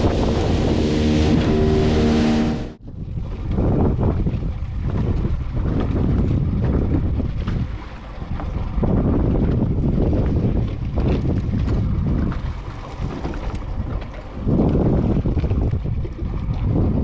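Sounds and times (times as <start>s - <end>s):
waves washing against hull: 0.0s - 17.0s
wind buffeting microphone: 0.0s - 17.0s.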